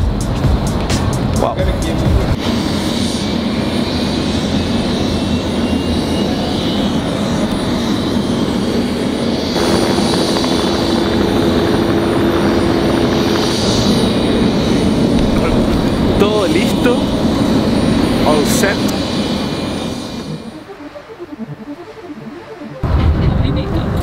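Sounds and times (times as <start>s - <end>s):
steady hum: 0.0s - 24.0s
helicopter engine and rotor noise: 0.6s - 23.0s.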